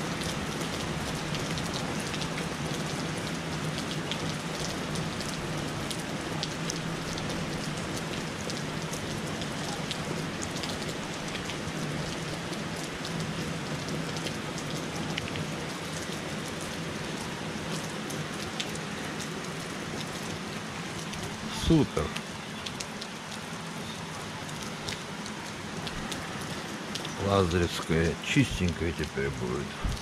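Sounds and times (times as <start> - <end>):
sharp ticks of raindrops: 0.0 - 30.0
steady rain falling on trees: 0.0 - 30.0.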